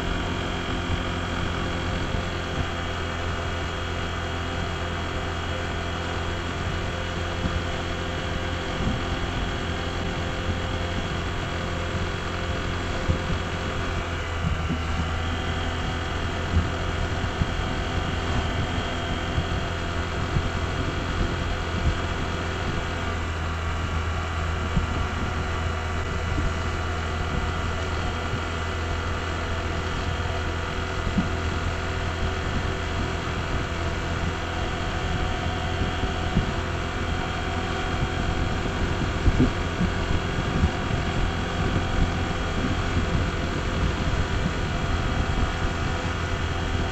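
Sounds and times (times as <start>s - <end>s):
rush of riding noise: 0.0s - 46.9s
scooter engine running: 0.0s - 46.9s.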